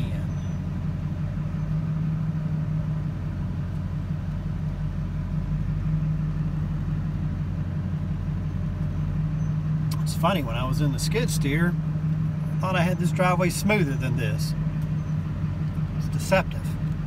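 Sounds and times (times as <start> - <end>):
truck engine low drone: 0.0 - 17.0.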